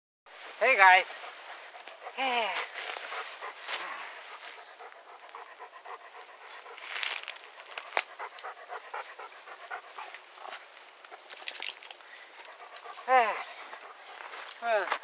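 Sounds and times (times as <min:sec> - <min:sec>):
dog panting: 0:01.0 - 0:15.0.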